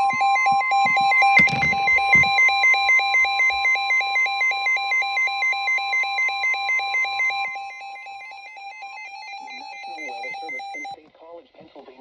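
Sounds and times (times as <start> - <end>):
steady single-pitch alert tone: 0.0 - 11.0.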